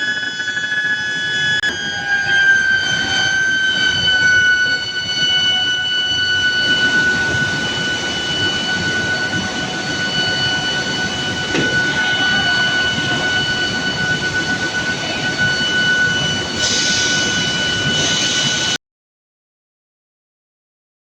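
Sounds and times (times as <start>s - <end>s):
furnace high-pitched whine: 0.0s - 18.8s
machinery noise: 0.0s - 18.8s.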